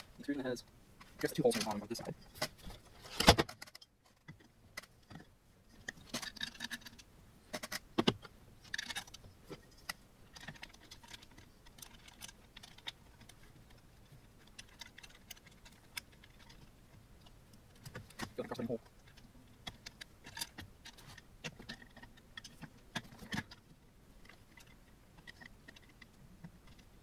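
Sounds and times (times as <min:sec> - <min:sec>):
metal parts clicking and rattling: 0:01.0 - 0:27.0.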